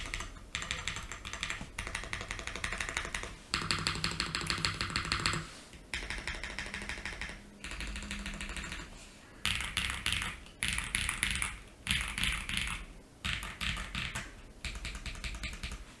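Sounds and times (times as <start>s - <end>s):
mechanical keyboard typing: 0.0s - 15.8s.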